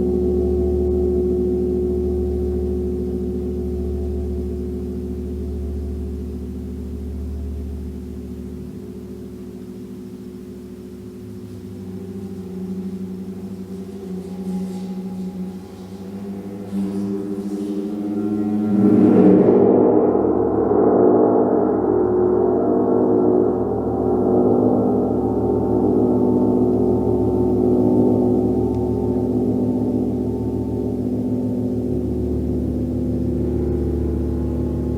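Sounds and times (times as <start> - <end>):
gong ringing: 0.0 - 34.9.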